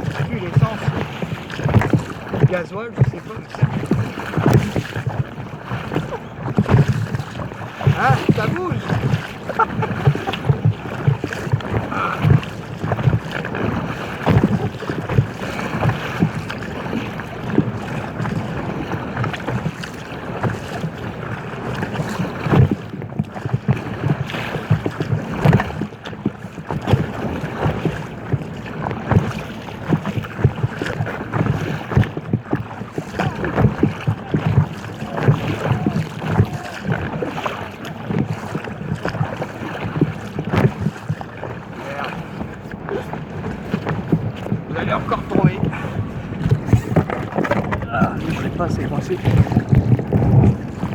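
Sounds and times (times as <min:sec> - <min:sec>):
water slapping against hull: 0:00.0 - 0:50.9
wind buffeting microphone: 0:00.0 - 0:50.9.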